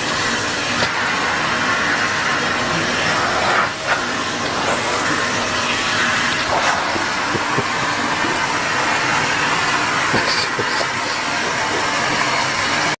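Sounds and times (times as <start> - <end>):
vacuum cleaner motor running: 0.0 - 13.0.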